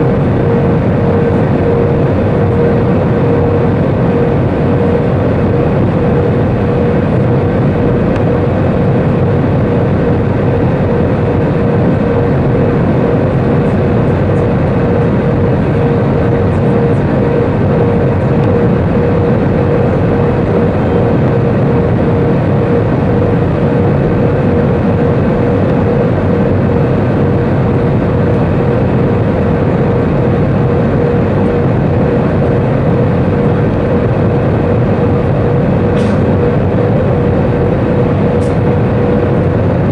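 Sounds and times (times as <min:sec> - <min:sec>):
jet cabin engine rush: 0:00.0 - 0:39.9
steady droning tone: 0:00.0 - 0:39.9.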